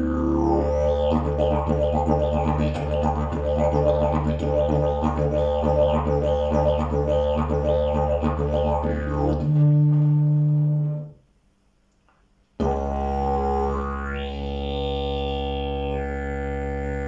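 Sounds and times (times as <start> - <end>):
didgeridoo droning: 0.0 - 11.2, 12.6 - 17.0.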